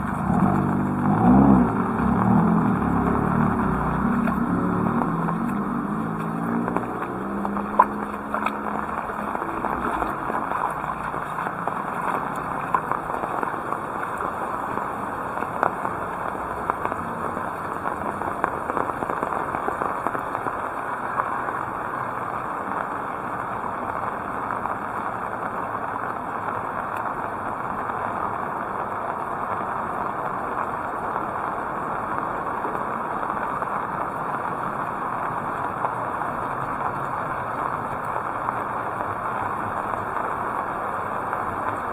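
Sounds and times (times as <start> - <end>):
heavy rain hissing: 0.0 - 41.9
raindrops tapping surfaces: 0.0 - 41.9.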